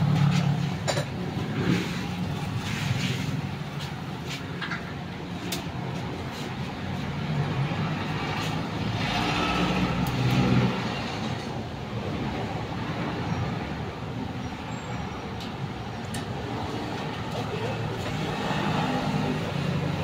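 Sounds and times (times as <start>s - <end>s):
traffic driving past: 0.0s - 20.0s.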